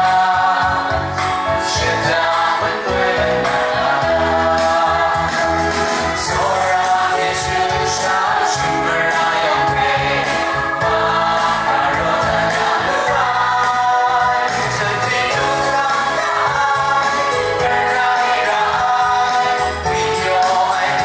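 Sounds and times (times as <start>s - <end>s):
group of voices singing: 0.0s - 21.0s
instrumental backing with steady beat: 0.0s - 21.0s.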